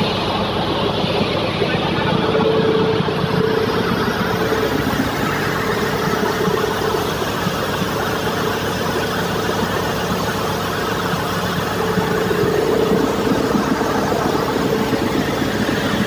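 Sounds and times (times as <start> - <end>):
constant hum: 0.0 - 16.0
engine room machinery running: 0.0 - 16.0.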